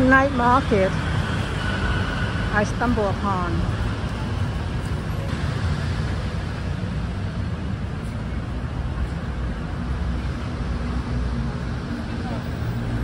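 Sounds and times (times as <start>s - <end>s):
low rumble of city noise: 0.0s - 13.0s.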